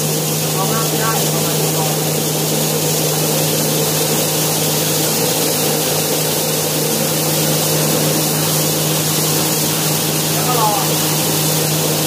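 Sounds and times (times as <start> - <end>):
constant rushing noise: 0.0 - 12.0
motor hum: 0.0 - 12.0.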